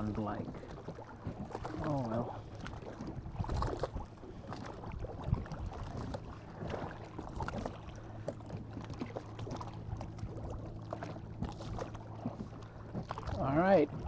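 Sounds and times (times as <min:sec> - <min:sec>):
oars stroking water: 0:00.0 - 0:14.0
water lapping against hull: 0:00.0 - 0:14.0.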